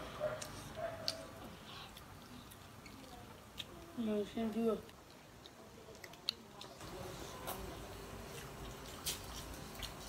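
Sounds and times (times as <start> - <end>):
chewing: 0.2 - 4.1, 4.7 - 10.0.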